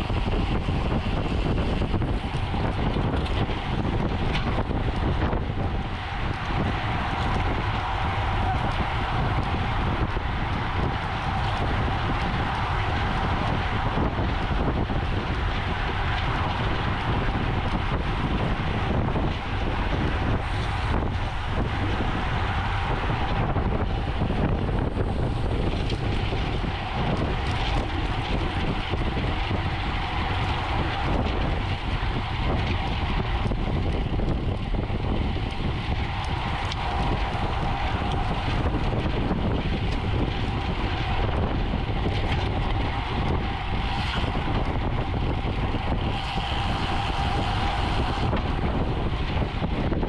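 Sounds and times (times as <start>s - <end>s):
low rumble: 0.0s - 50.0s
wind buffeting microphone: 0.0s - 50.0s.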